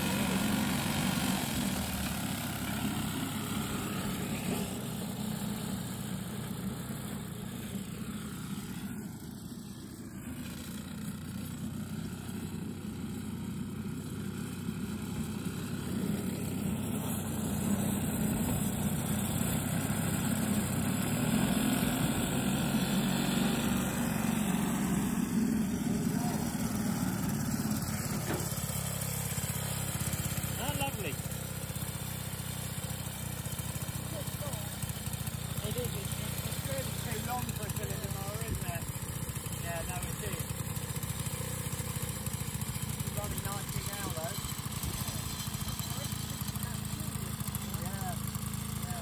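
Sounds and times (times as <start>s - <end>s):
lawnmower engine running: 0.0s - 49.0s.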